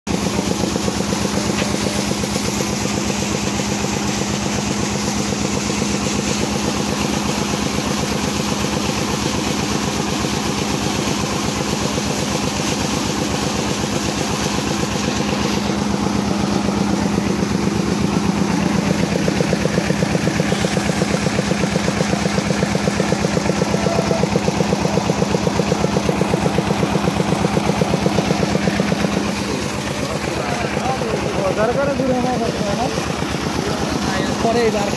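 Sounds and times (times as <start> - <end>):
diesel engine chugging: 0.1 - 34.9
water gushing from pipe: 0.1 - 34.9.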